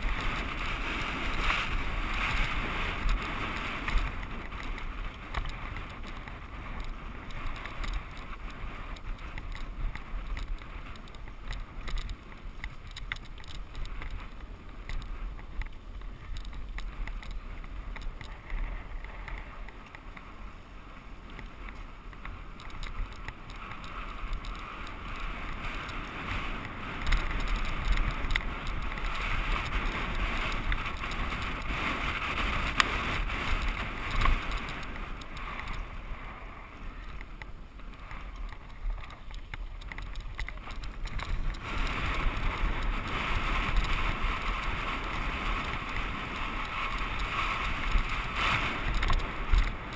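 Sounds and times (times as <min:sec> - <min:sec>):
bike clicks and rattles: 0:00.0 - 0:49.9
bike tyres on dirt: 0:00.0 - 0:49.9
wind on microphone: 0:00.0 - 0:49.9.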